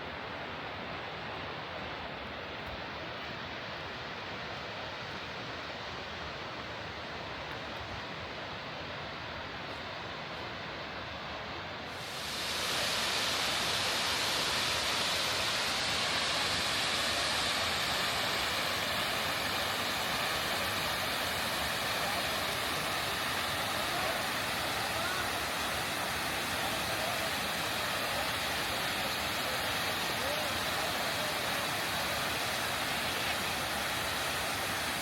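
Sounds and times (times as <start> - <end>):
falling mountain water rushing: 0.1 - 35.0.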